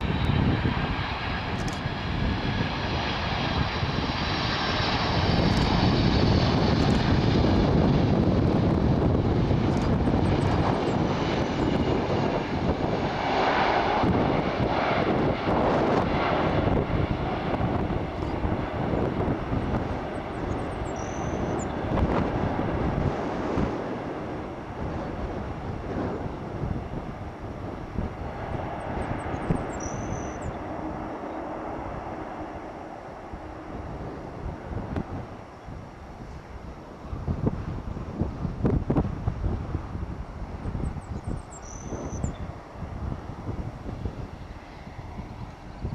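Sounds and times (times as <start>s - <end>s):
jet engine rumble: 0.0s - 45.9s.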